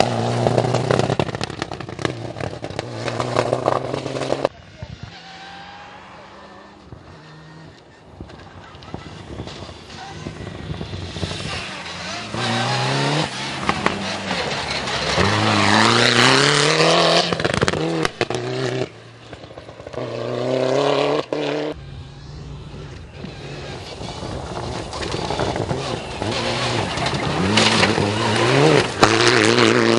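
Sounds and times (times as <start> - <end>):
rally car engines revving: 0.0 - 29.9.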